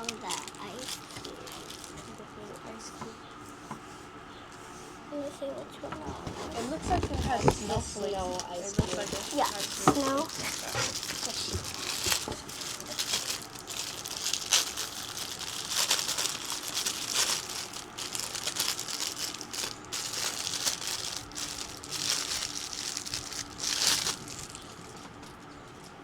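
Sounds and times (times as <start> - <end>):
plastic packaging crinkling: 0.0 - 2.9, 6.2 - 26.0.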